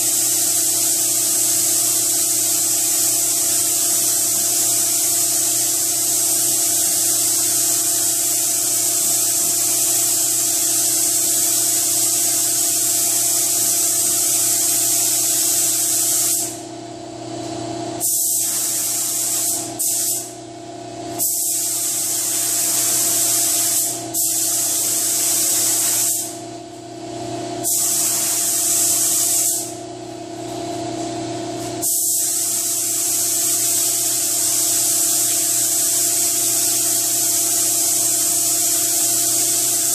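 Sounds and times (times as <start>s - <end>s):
paint spray gun hissing: 0.0s - 16.7s, 18.0s - 20.4s, 21.2s - 26.5s, 27.6s - 29.8s, 31.6s - 39.9s.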